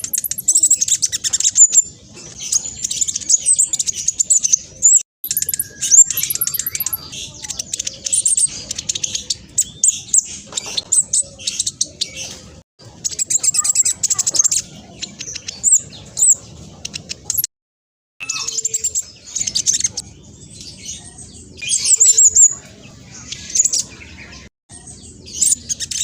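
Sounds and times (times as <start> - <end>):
bird chattering song: 0.0 - 17.5, 18.2 - 26.0.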